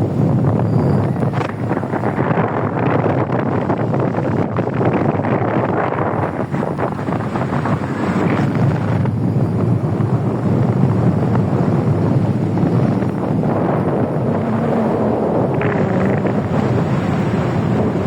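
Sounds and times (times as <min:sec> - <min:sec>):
boat rushing through water: 0:00.0 - 0:18.0
wind buffeting microphone: 0:00.0 - 0:18.0.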